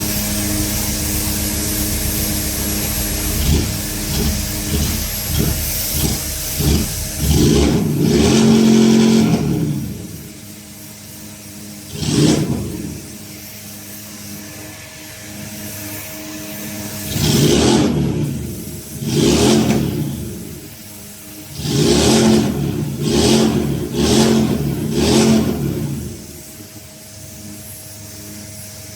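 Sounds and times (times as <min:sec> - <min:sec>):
power sander humming: 0:00.0 - 0:27.6.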